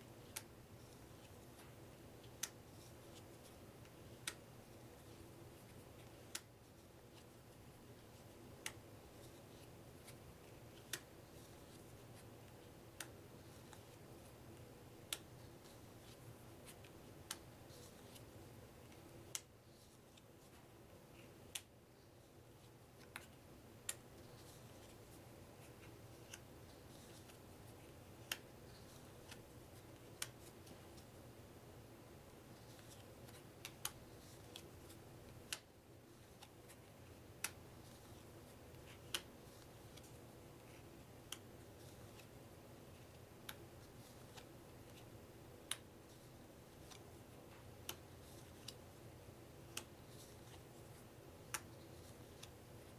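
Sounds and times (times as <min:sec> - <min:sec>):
low steady hum: 0:00.0 - 0:52.9
playing cards set on table: 0:00.1 - 0:31.4, 0:32.4 - 0:52.9.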